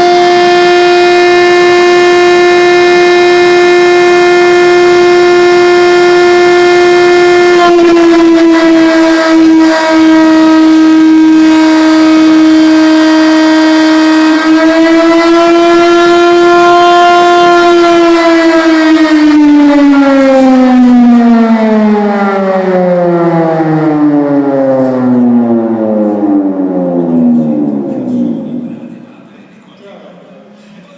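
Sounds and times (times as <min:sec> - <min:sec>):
air-raid siren wailing: 0:00.0 - 0:29.4.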